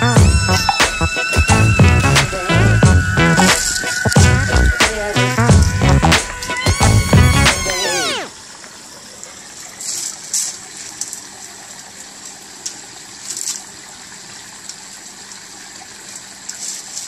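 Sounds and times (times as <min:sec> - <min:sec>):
running water in a pond: 0:00.0 - 0:17.0.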